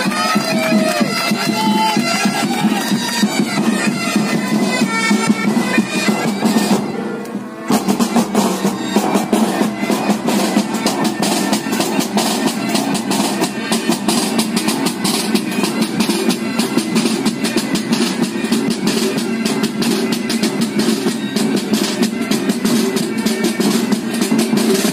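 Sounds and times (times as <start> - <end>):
bagpipes droning: 0.0 - 24.9
rapid drum strokes: 0.0 - 24.9.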